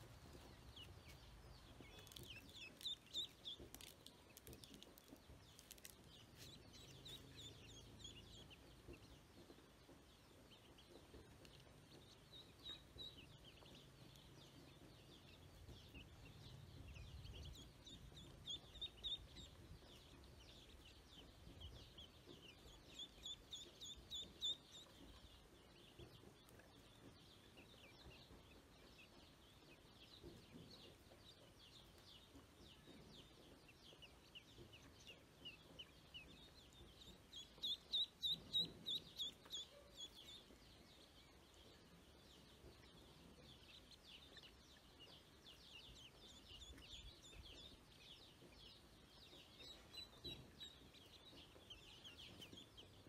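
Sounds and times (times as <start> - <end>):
ducklings peeping: 0.0 - 53.0.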